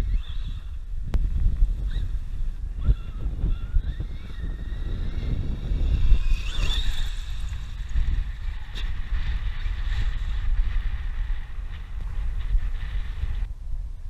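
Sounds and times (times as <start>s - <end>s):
high whine of electric motor: 0.0s - 13.5s
wind buffeting microphone: 0.0s - 14.0s.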